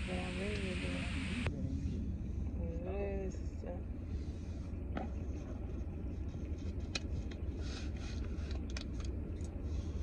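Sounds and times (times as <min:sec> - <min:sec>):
car cabin engine rumble: 0:00.0 - 0:10.0.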